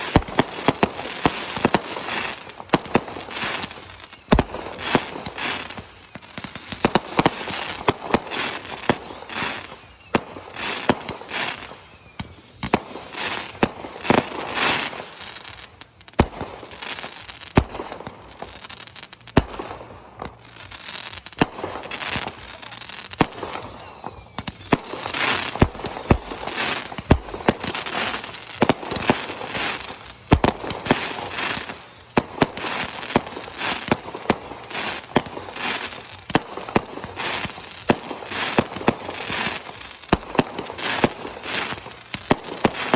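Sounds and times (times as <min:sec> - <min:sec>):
firework whistles falling in pitch: 0:00.0 - 0:15.3, 0:22.2 - 0:42.9
firework bangs: 0:00.0 - 0:42.9
firework crackling: 0:00.0 - 0:42.9.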